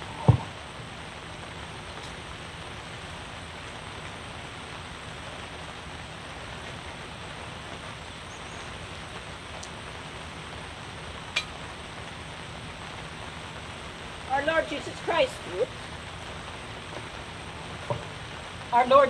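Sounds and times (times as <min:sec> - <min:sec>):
rain on fabric canopy: 0:00.0 - 0:19.0.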